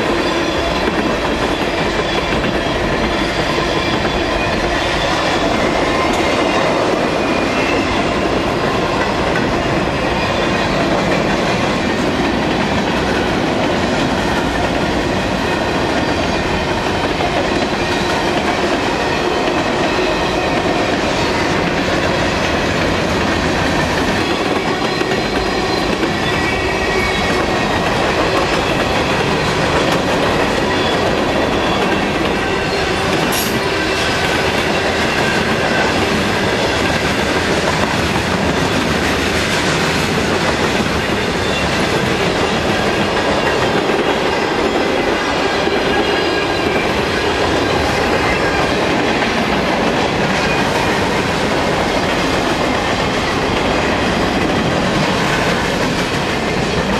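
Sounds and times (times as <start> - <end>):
clickety-clack of train wheels: 0.0 - 56.9
steel wheels rumbling on rail: 0.0 - 56.9.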